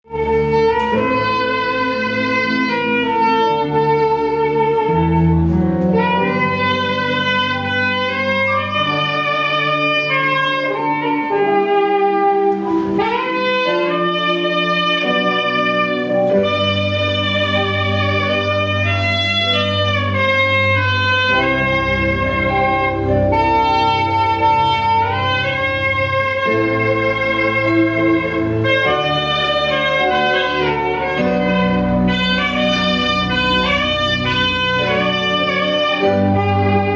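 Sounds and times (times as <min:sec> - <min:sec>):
saxophone slow melody: 0:00.0 - 0:36.9
sustained bass and chords: 0:00.0 - 0:36.9.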